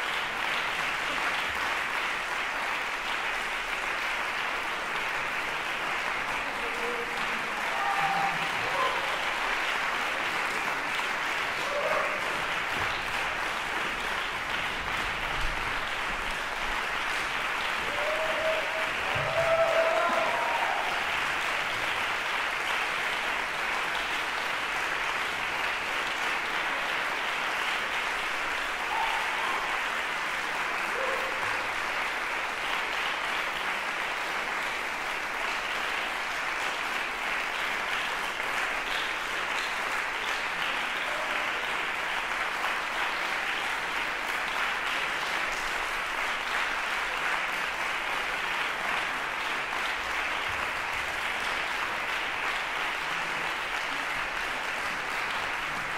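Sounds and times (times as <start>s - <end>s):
audience applauding: 0.0s - 55.9s.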